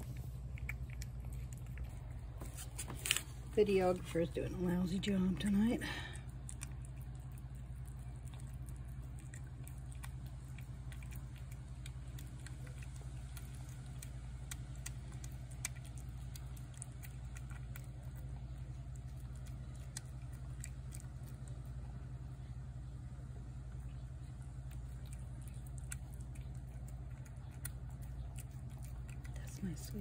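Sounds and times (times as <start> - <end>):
cat chewing and licking food: 0.0 - 30.0
steady low hum: 0.0 - 30.0.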